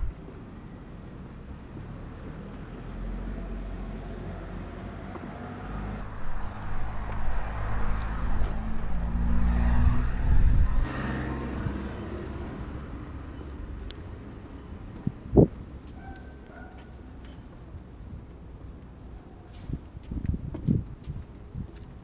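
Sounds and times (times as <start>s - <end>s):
car engine rumble: 0.0s - 18.6s.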